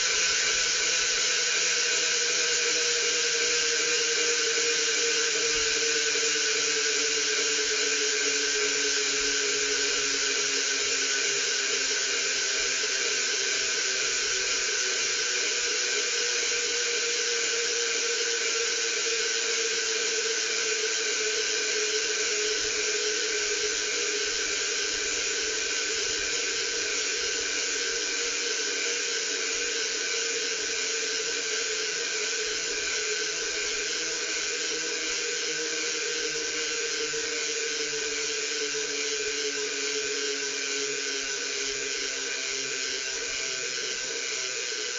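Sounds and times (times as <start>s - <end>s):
bicycle hub freewheeling buzz: 0.0s - 44.9s.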